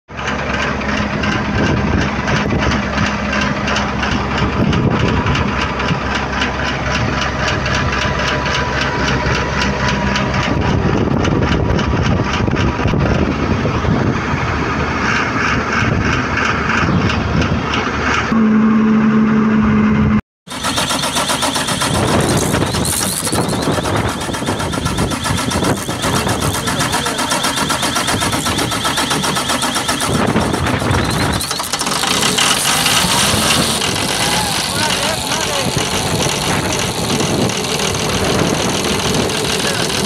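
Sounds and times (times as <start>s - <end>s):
excavator diesel engine running: 0.1s - 40.0s.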